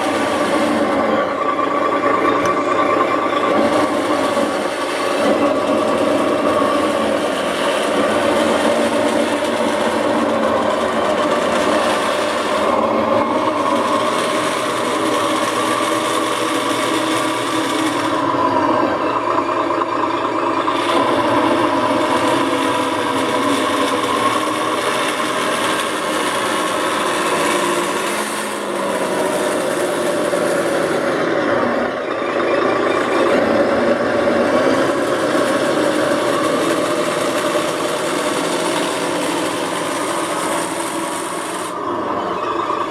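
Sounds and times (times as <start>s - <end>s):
truck diesel engine sound from speaker: 0.0s - 42.9s.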